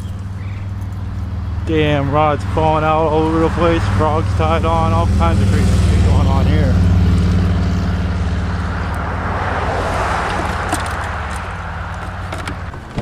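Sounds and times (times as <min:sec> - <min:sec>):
road noise: 0:00.0 - 0:13.0
truck engine: 0:00.0 - 0:13.0.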